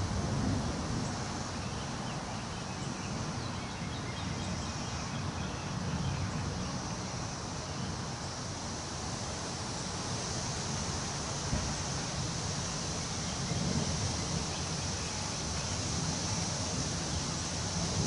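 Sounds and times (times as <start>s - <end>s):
wind through trees: 0.0s - 18.0s.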